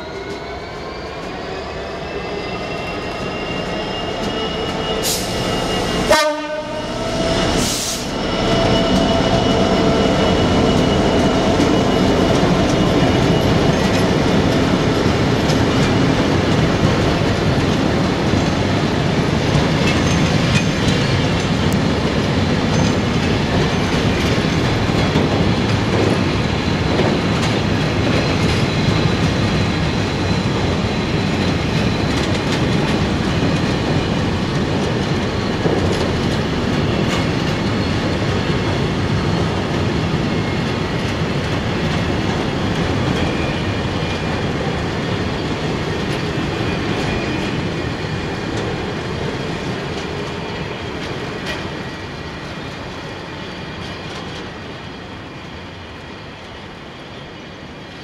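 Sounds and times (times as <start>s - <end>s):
freight train wagons rolling past: 0.0s - 58.0s.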